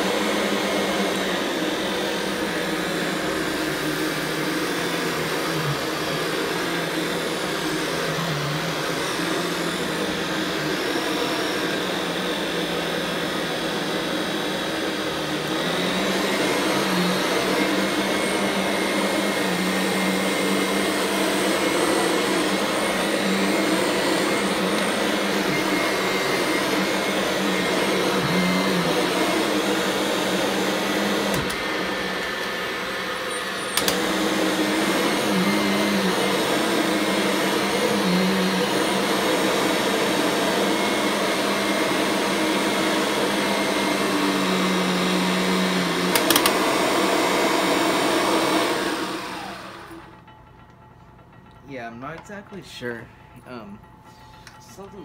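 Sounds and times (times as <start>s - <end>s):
vacuum cleaner running on carpet: 0.0s - 50.3s.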